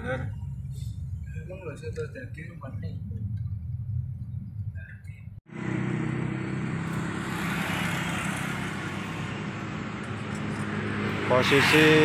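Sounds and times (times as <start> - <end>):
road noise: 0.0 - 12.0
truck engine hum: 0.0 - 12.0.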